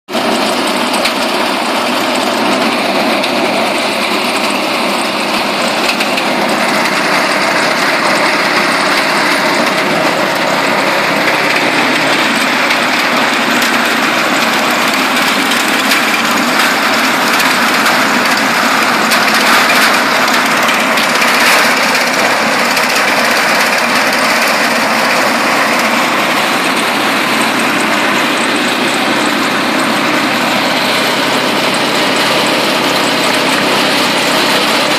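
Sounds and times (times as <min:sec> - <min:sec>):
branch chipper running: 0:00.1 - 0:34.9.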